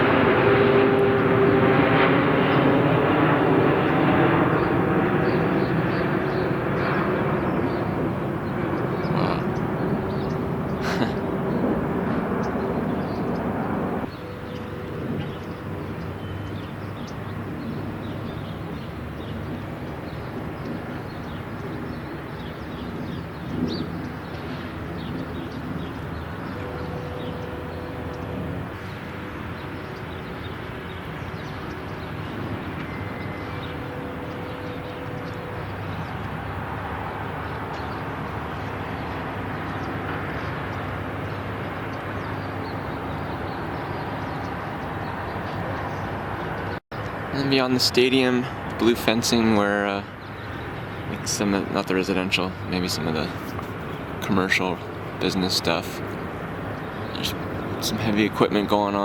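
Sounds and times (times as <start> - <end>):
vehicle engines passing: 0.0 - 59.0.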